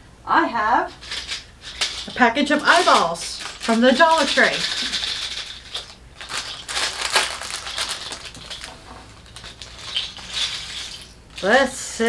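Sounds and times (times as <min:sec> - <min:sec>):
plastic package crinkling: 0:01.1 - 0:11.6.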